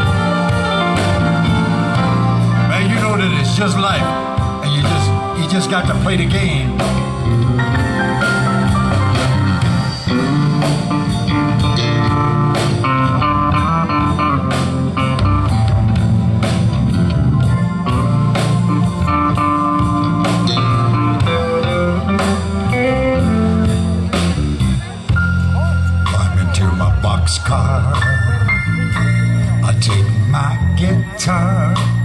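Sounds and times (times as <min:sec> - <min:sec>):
electric guitar: 0:00.0 - 0:32.0
live band playing soul ballad: 0:00.0 - 0:32.0.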